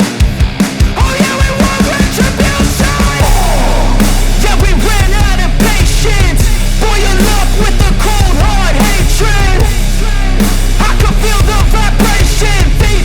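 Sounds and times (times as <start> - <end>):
heavy bass and drum beat: 0.0 - 13.0
rock music with drums: 0.0 - 13.0
person singing: 1.0 - 13.0.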